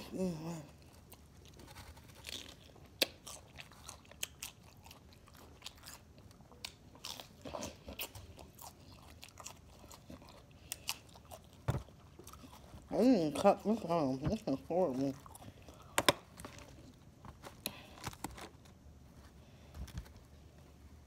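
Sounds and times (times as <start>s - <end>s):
person chewing crisp lettuce: 0.0s - 20.0s.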